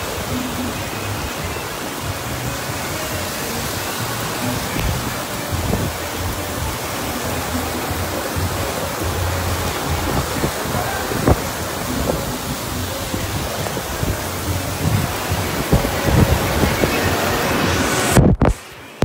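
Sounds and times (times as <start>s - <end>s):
torrential rain pouring: 0.0s - 19.0s
wind gusts rumbling on microphone: 0.0s - 19.0s.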